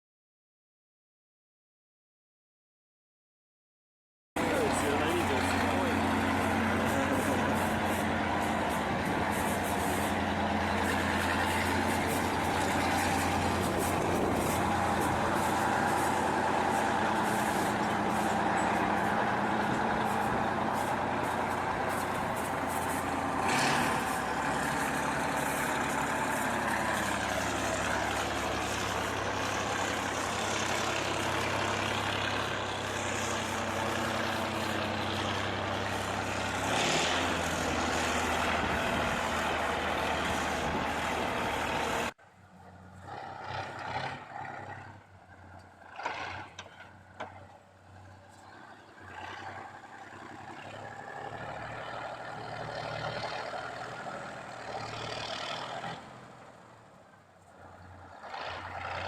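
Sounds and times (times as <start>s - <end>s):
tractor diesel engine running: 4.4s - 59.0s.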